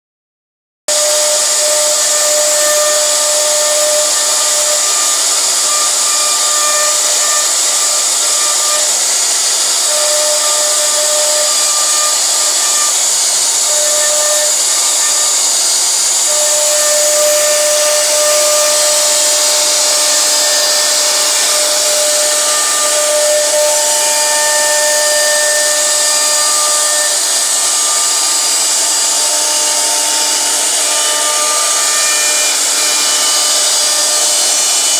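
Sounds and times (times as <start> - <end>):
router cutting wood: 0.9 - 34.9.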